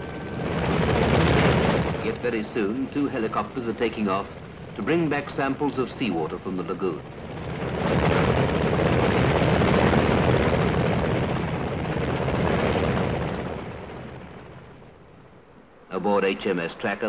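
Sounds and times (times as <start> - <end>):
helicopter engine and rotors: 0.0 - 17.0.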